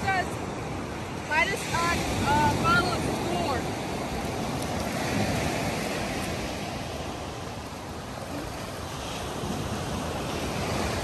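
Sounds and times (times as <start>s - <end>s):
ocean surf washing on beach: 0.0s - 11.0s
wind rumbling on microphone: 0.0s - 11.0s.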